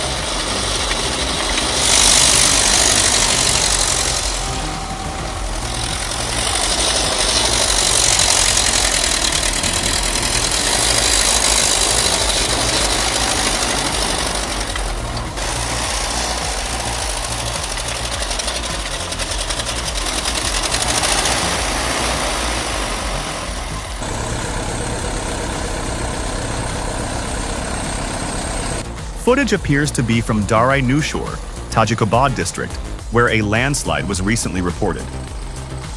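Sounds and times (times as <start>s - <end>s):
heavy machinery diesel engine: 0.0s - 35.9s.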